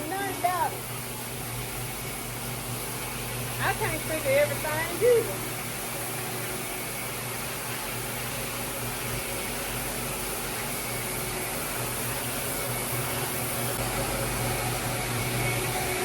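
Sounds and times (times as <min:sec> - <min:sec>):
vacuum motor humming: 0:00.0 - 0:16.0.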